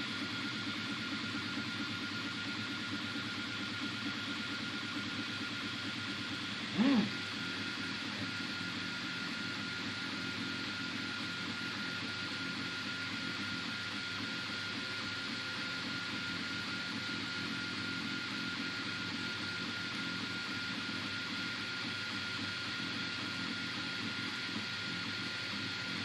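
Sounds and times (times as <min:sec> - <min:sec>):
printer whirring with high tone: 0:00.0 - 0:26.0.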